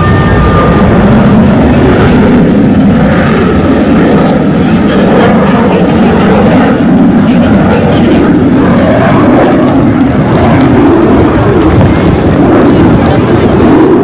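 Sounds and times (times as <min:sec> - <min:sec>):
aircraft flying low overhead: 0:00.0 - 0:14.0.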